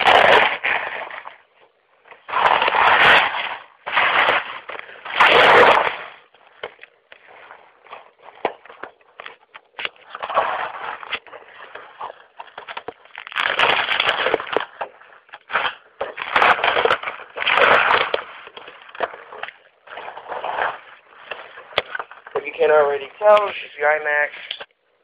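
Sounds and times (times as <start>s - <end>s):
packing material rustling: 0.0s - 24.8s.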